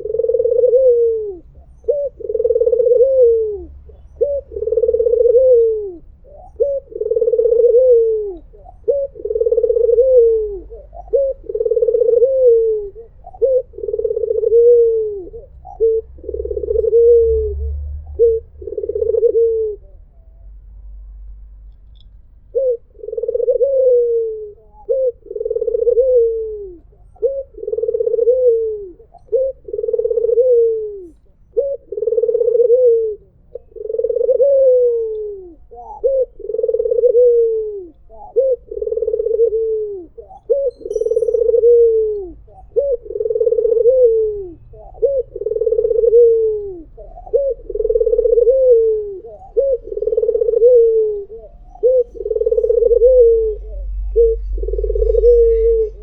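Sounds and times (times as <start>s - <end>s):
dove cooing: 0.0s - 20.7s, 22.4s - 56.0s.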